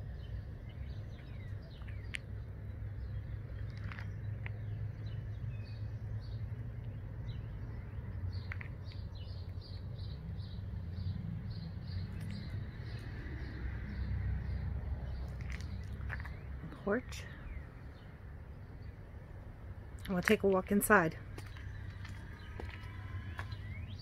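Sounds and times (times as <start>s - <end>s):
songbird chirping: 0.0s - 24.0s
steady low rumble: 0.0s - 24.0s.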